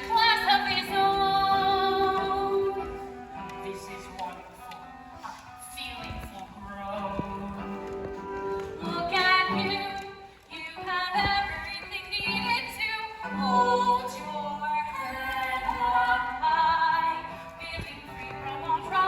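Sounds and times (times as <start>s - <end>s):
woman singing: 0.0s - 4.5s, 5.2s - 19.0s.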